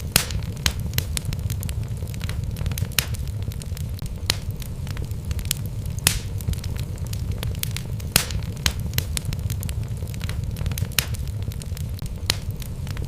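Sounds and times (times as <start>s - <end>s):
logs crackling and popping: 0.0s - 13.0s
wood fire rumbling: 0.0s - 13.0s.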